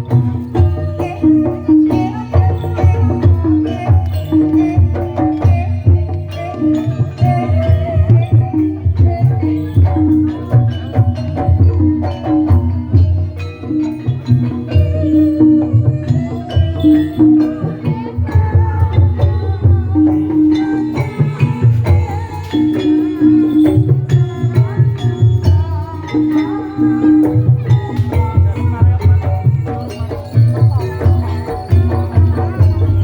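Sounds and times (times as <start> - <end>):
hand drums playing: 0.0 - 33.0
repeated pitched gamelan notes: 0.0 - 33.0
wavering melody line: 0.0 - 33.0.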